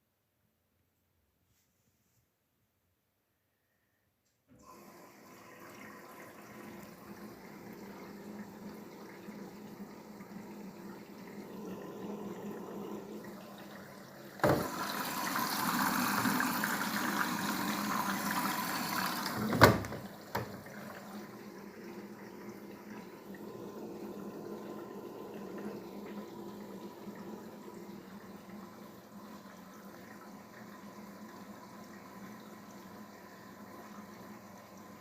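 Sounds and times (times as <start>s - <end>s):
washing machine taking in water: 4.6s - 35.0s.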